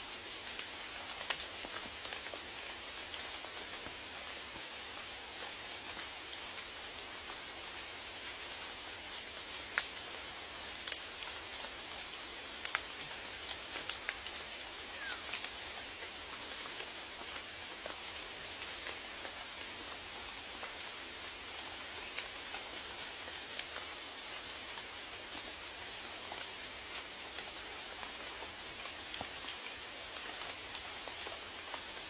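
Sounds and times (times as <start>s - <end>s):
raindrops ticking on a surface: 0.0s - 32.0s
steady rain: 0.0s - 32.0s.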